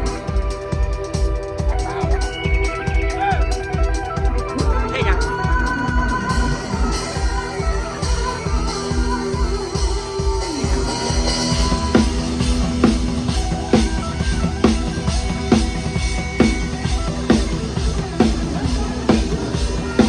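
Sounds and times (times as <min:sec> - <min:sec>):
kick and snare drum beat: 0:00.0 - 0:20.0
live band playing loud music: 0:00.0 - 0:20.0.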